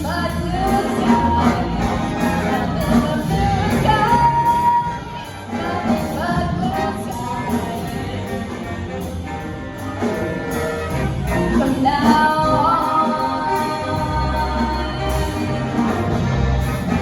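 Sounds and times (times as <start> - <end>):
woman singing: 0.0 - 9.3, 11.3 - 17.0
big band jazz: 0.0 - 17.0.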